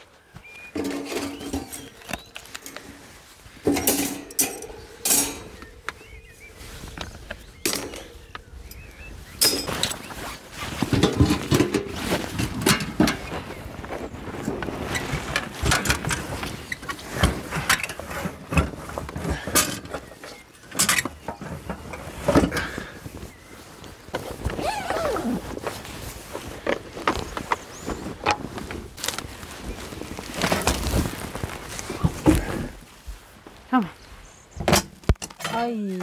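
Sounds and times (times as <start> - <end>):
nylon bag rustling: 0.0 - 19.5, 21.9 - 34.2.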